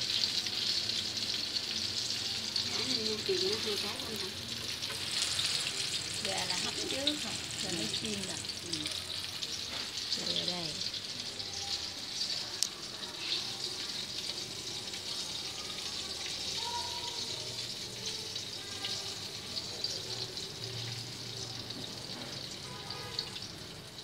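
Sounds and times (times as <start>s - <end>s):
chicken frying in oil: 0.0s - 24.0s.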